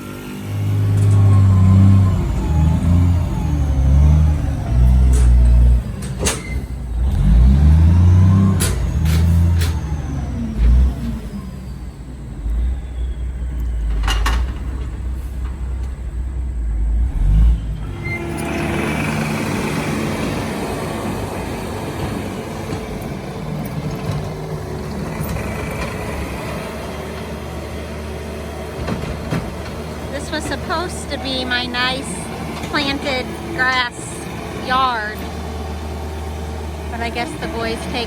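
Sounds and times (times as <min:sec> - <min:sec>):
heavy machinery rumbling: 0:00.0 - 0:38.0.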